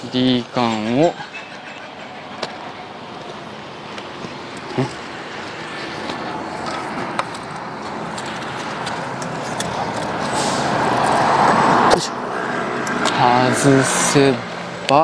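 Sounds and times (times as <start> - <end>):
vehicle approaching: 0.0 - 15.0.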